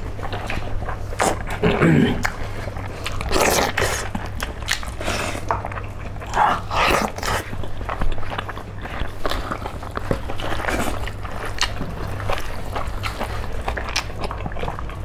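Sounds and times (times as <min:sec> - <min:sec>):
steady low hum: 0:00.0 - 0:15.0
wet chewing and smacking: 0:00.0 - 0:15.0.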